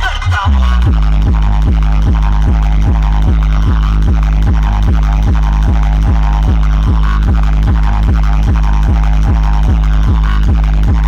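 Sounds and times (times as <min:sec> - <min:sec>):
loud bass-heavy dance music: 0:00.0 - 0:11.0.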